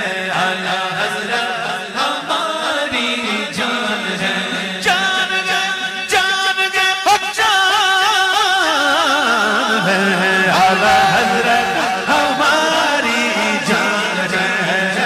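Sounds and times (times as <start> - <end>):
person singing devotional chant: 0.0 - 15.0.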